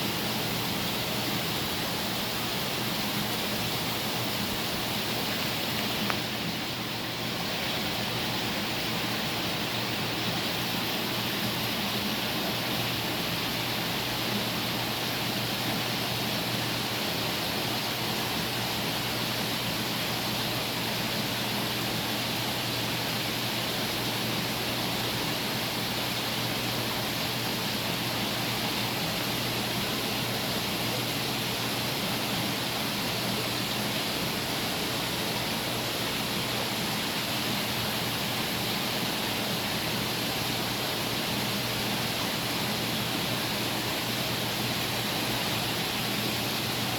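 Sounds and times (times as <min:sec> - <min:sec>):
rushing water and pumps: 0:00.0 - 0:46.9.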